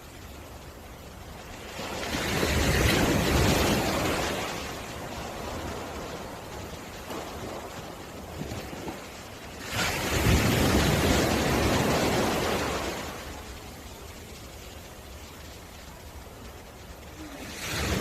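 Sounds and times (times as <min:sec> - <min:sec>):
surf hiss: 0:00.0 - 0:18.0
wave breaking on shore: 0:00.0 - 0:18.0.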